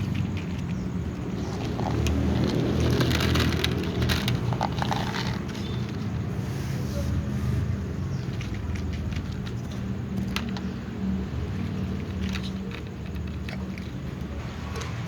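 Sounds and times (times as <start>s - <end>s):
cats crunching dry food: 0.0s - 6.4s, 8.2s - 15.0s.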